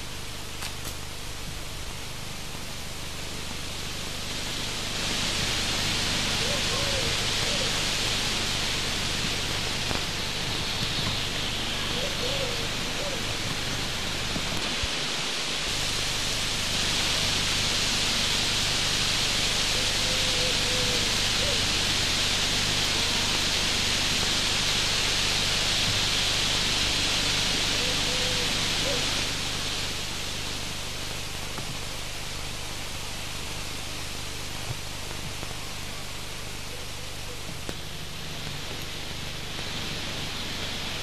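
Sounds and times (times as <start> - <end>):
steady hiss: 0.0 - 41.0.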